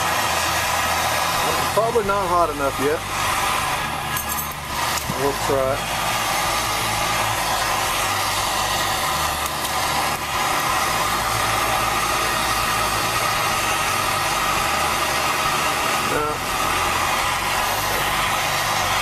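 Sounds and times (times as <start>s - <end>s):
gas torch flame roaring: 0.0s - 19.0s.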